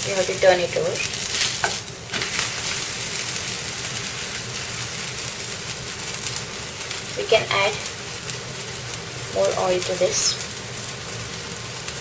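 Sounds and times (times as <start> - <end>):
flatbread sizzling in oil: 0.0 - 12.0.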